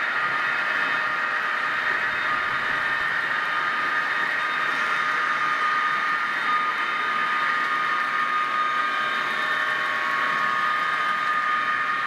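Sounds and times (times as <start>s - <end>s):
model train motor whine: 0.0s - 12.0s
train running noise: 0.0s - 12.0s.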